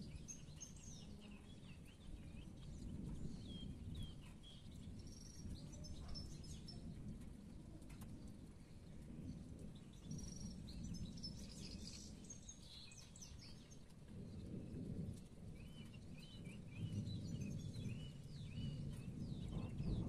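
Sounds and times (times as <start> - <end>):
distant thunder rumble: 0.0 - 20.0
songbirds chirping: 0.0 - 20.0.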